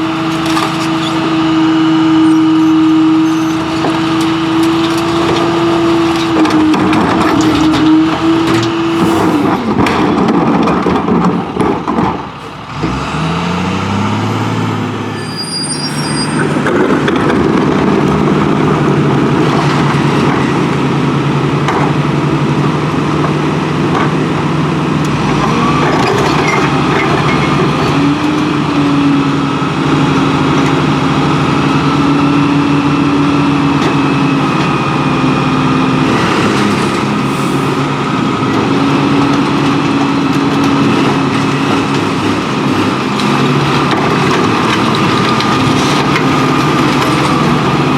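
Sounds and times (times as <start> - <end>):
garbage truck diesel engine: 0.0 - 47.9.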